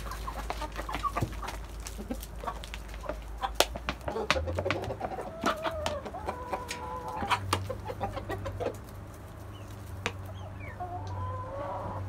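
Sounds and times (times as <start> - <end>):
chickens calling: 0.0 - 12.0
chickens pecking on dirt: 0.0 - 12.0.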